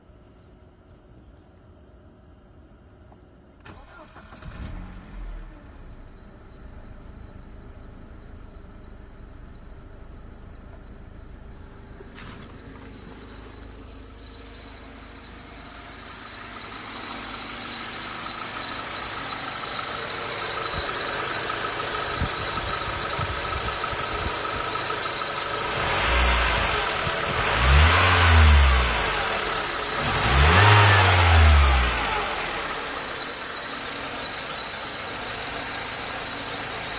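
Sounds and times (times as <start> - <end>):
car engine idling and revving: 3.6 - 36.9.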